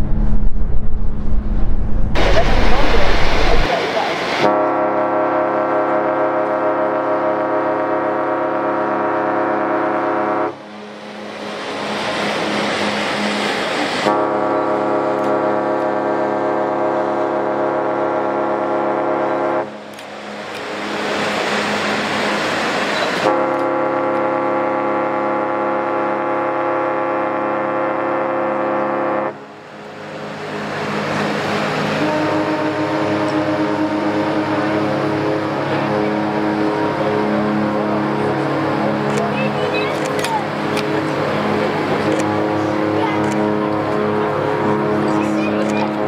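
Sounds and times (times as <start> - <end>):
rushing noise: 0.0 - 6.0, 8.2 - 17.6, 18.4 - 26.3, 29.3 - 46.0
deep ship's horn blasts: 0.0 - 46.0
higher-pitched ship horn: 2.2 - 46.0.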